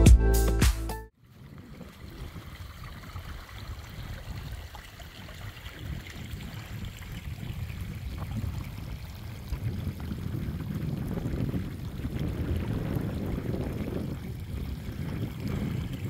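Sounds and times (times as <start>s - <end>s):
water trickling over grass: 1.2s - 16.0s.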